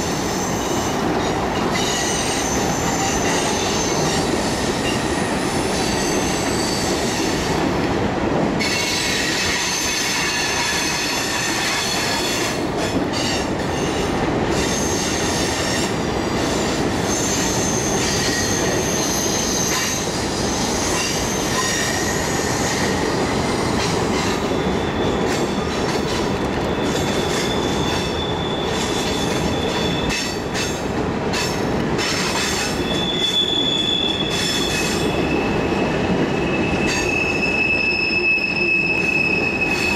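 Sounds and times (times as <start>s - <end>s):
high wheel squeal: 0.0s - 7.5s, 13.2s - 30.8s, 32.0s - 39.9s
wheels rumbling on rails: 0.0s - 39.9s.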